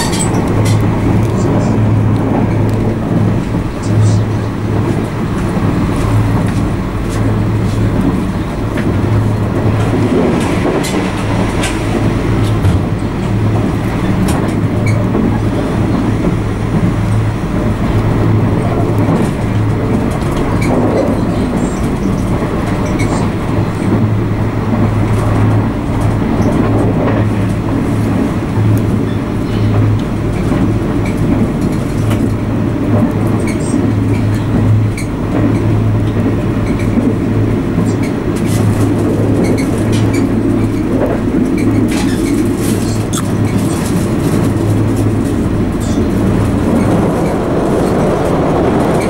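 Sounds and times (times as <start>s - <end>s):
train wheels rumbling on track: 0.0s - 49.0s.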